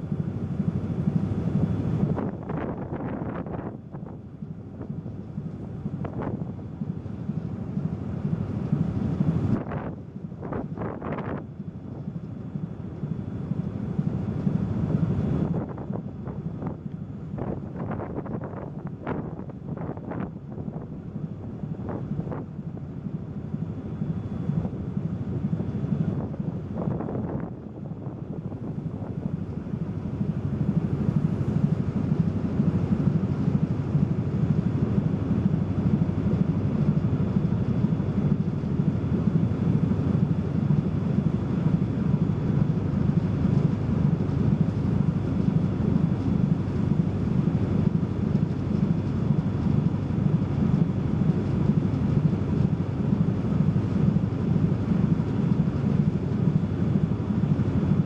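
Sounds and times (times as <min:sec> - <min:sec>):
ferry engines rumbling: 0:00.0 - 0:58.0.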